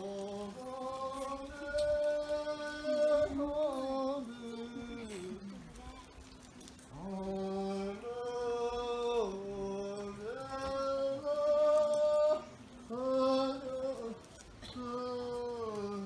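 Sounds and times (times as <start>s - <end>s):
man chanting: 0.0s - 6.2s, 6.8s - 16.0s.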